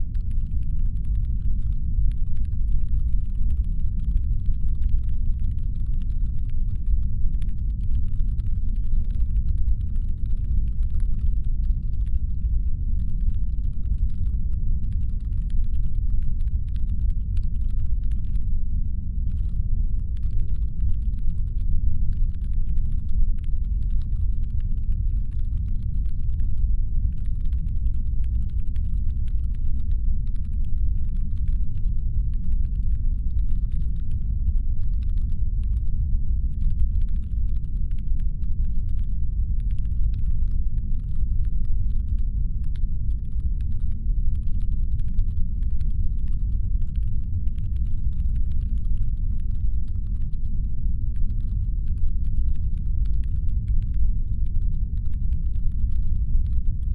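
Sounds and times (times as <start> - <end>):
deep brown-noise rumble: 0.0 - 56.9.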